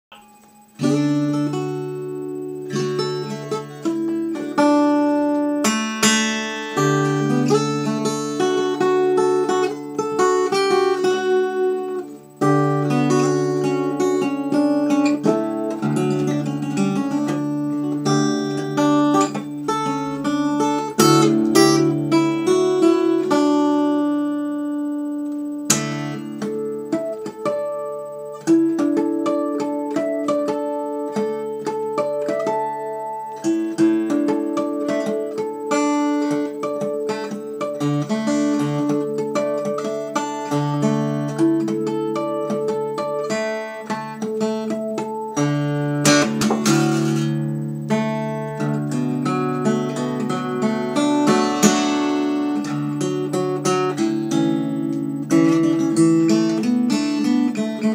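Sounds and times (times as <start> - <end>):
fingerpicked acoustic guitar: 0.1 - 57.9.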